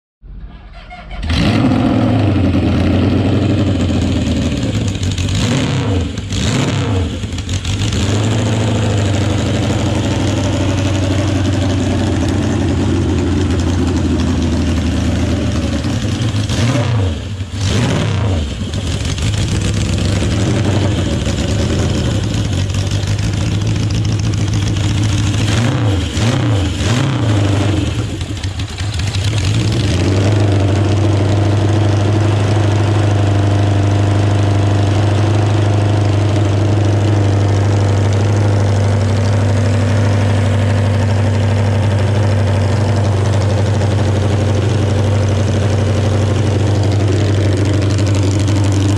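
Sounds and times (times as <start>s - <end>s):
motorcycle engine revving: 0.7s - 48.9s.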